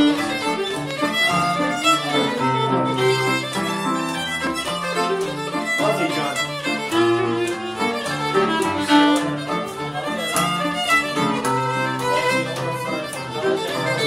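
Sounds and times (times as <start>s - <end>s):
bass notes accompaniment: 0.0s - 14.0s
fiddle playing a brisk tune: 0.0s - 14.0s.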